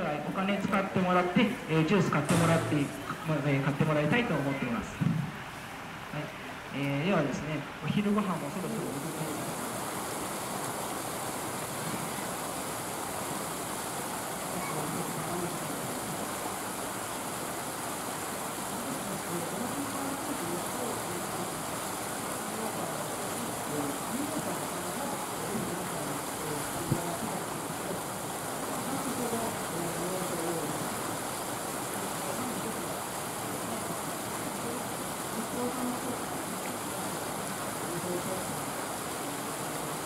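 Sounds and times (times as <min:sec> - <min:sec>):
steady background hiss: 0:00.0 - 0:40.0.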